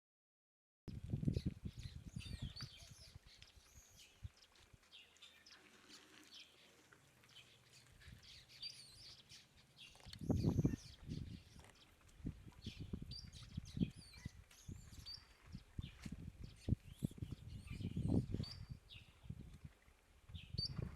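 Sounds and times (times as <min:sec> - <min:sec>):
birds chirping: 0:01.2 - 0:19.4.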